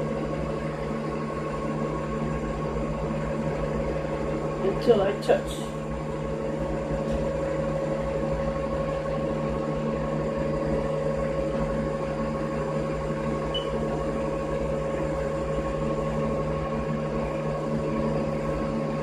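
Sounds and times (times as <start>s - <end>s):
milling machine humming and whining: 0.0s - 19.0s.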